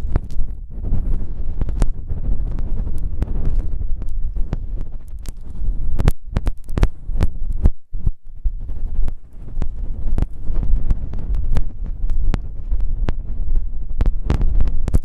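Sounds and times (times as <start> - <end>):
low rumble with crackles: 0.0 - 15.0
rubbing against a microphone: 0.0 - 15.0.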